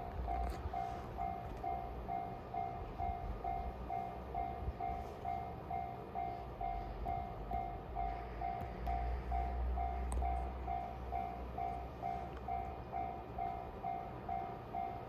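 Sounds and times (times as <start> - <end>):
level-crossing warning bell: 0.0 - 15.0.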